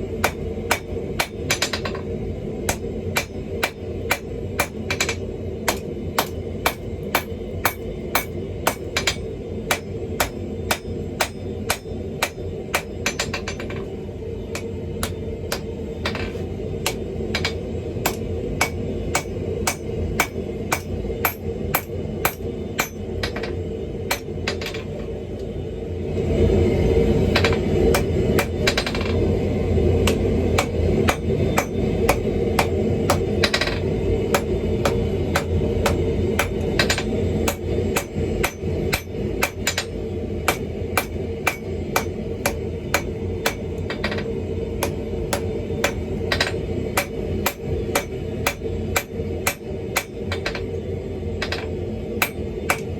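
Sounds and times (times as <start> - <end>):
hammer striking steel on anvil: 0.2 - 2.1, 2.7 - 13.9, 14.5 - 25.0, 30.0 - 50.7, 51.4 - 52.9.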